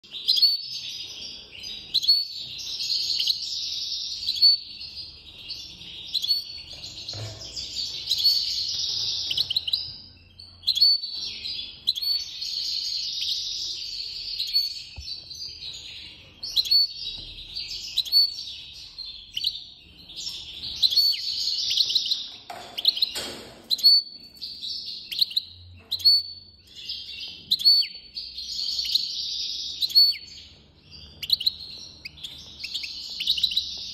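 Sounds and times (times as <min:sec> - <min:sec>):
goldfinch twittering song: 0:00.1 - 0:33.9.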